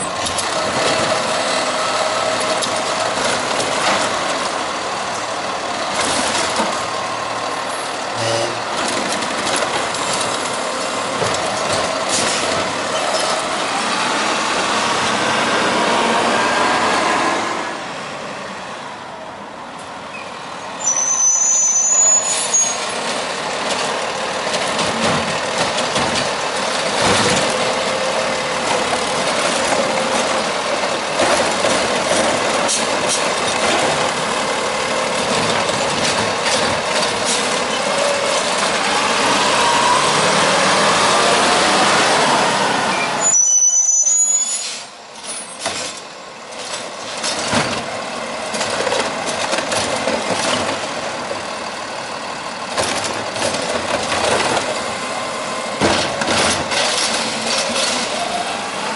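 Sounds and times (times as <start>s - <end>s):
brakes squealing: 0.0s - 15.2s, 20.1s - 58.9s
garbage truck engine running: 0.0s - 16.1s, 22.8s - 43.2s, 45.0s - 58.9s.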